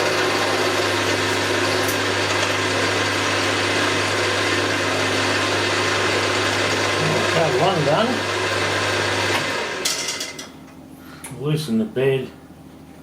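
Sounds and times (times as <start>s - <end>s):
milling machine humming: 0.0s - 10.4s.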